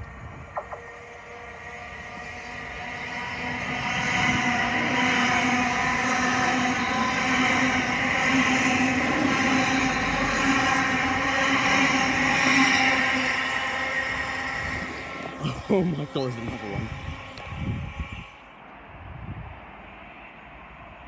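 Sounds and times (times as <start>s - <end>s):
electric train passing at speed: 0.0s - 21.0s
steady train hum: 0.0s - 21.0s
wheels rushing on rail: 0.0s - 21.0s.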